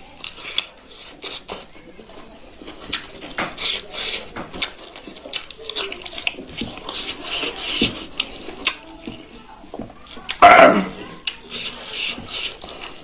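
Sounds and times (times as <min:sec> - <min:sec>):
wet chewing and lip smacking: 0:00.0 - 0:01.9, 0:02.5 - 0:10.5, 0:11.2 - 0:13.0.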